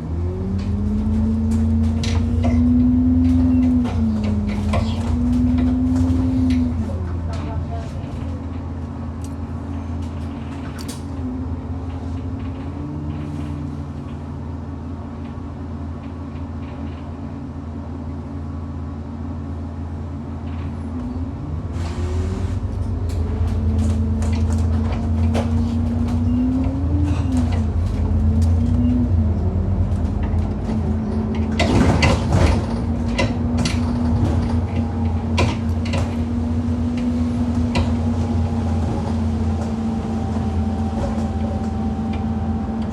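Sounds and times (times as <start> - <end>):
bus engine running: 0.0 - 42.9
bus knocking and rattling: 0.0 - 42.9.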